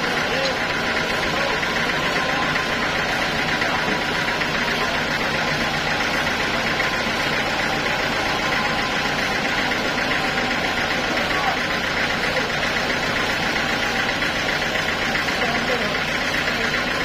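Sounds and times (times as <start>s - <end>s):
band sawmill running: 0.0s - 17.0s.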